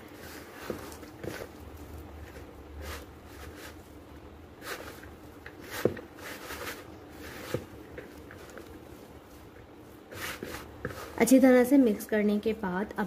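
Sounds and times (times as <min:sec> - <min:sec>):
hand squeezing vegetables in flour: 0:00.0 - 0:12.0.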